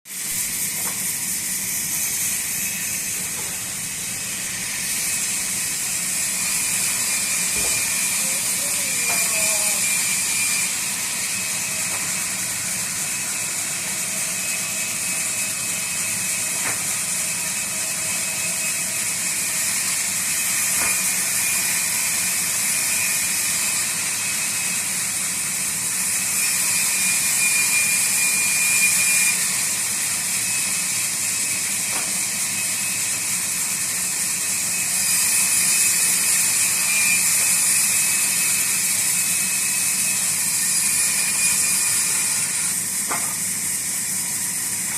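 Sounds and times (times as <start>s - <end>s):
sawmill blade cutting log: 0.1s - 44.9s.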